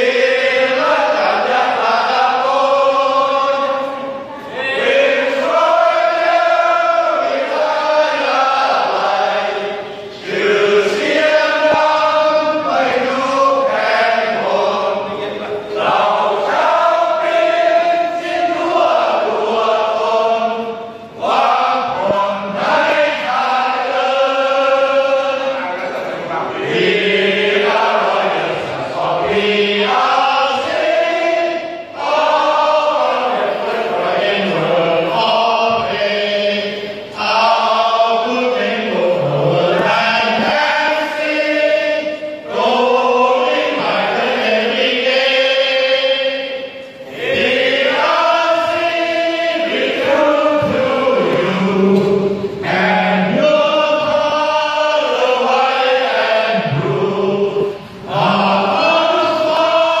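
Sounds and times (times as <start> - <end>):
men singing in chorus: 0.0 - 60.0.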